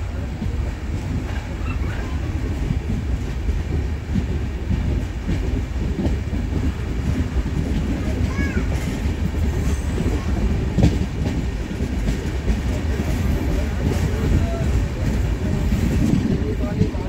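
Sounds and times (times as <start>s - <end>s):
low knocks of train wheels: 0.0s - 17.0s
train rumbling on rails: 0.0s - 17.0s.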